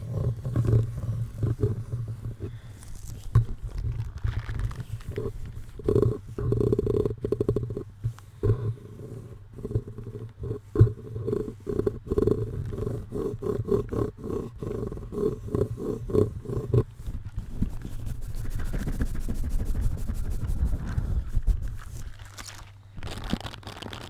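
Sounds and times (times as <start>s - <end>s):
microphone being rubbed: 0.0s - 13.2s, 15.5s - 23.3s.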